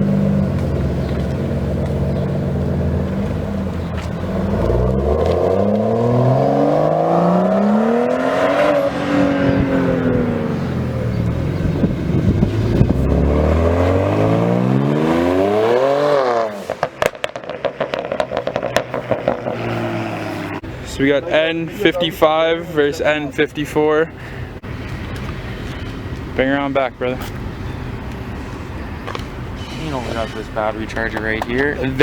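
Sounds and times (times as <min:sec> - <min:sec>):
exhaust crackles and pops: 0:00.0 - 0:08.2, 0:09.4 - 0:15.4, 0:16.1 - 0:20.6, 0:24.7 - 0:32.0
car engine idling and revving: 0:00.0 - 0:20.9, 0:22.8 - 0:32.0.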